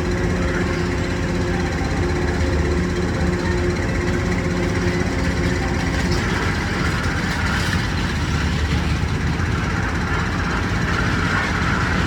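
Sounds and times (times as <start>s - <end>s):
carnival ride machinery rumble: 0.0s - 12.0s.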